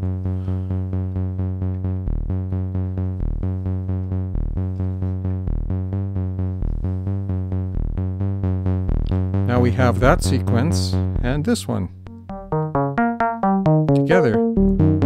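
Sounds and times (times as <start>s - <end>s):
lower synth note: 0.0s - 15.0s
synthesizer sequenced notes: 0.0s - 15.0s.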